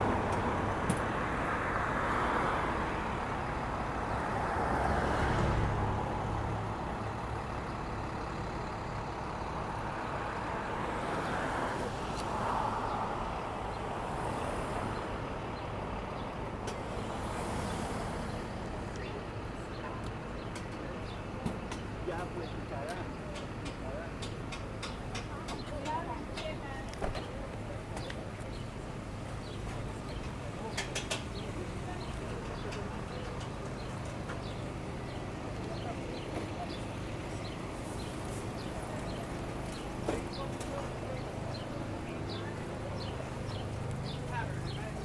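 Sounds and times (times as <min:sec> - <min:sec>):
heavy vehicle low rumble: 0:00.0 - 0:45.0
vehicles passing: 0:00.0 - 0:45.0.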